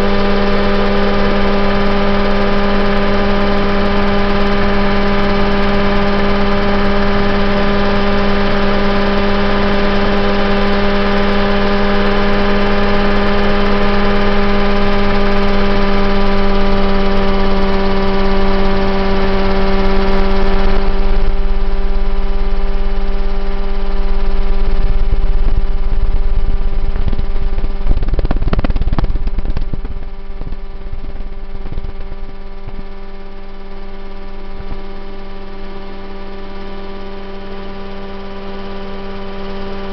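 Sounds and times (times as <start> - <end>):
rushing flutter: 0.0 - 39.4
helicopter engine and rotor droning: 0.0 - 39.9.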